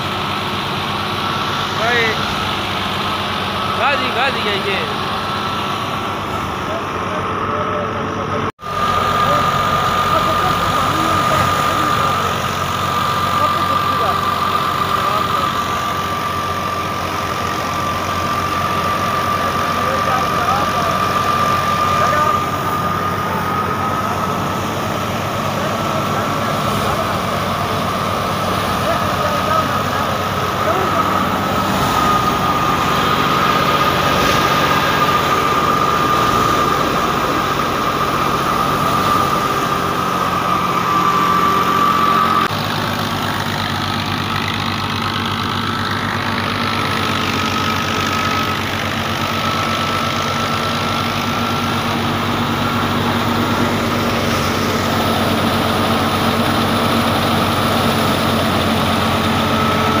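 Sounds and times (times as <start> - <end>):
thresher high whine: 0.0 - 60.0
tractor diesel engine running: 0.0 - 60.0.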